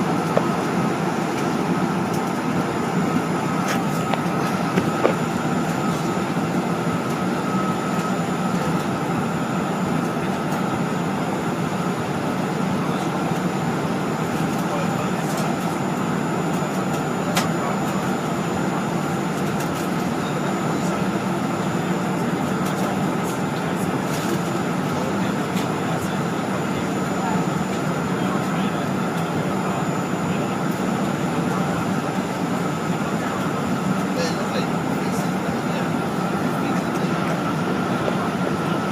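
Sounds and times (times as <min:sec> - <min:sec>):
jet cabin engine rush: 0:00.0 - 0:38.9.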